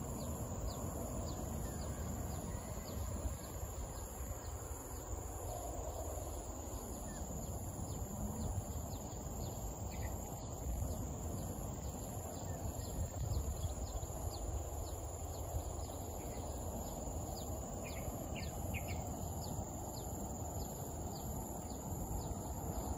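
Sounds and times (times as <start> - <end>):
insects droning: 0.0 - 22.9
pulsing insect trill: 0.0 - 22.9.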